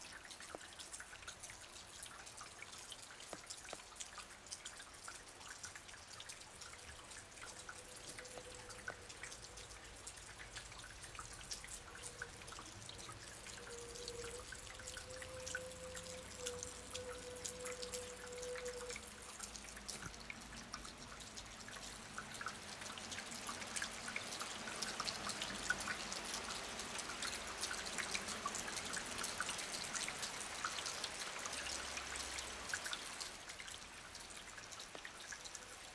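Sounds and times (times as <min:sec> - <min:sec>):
faint steady tone: 0:00.0 - 0:35.9
water dripping off roof: 0:00.0 - 0:35.9.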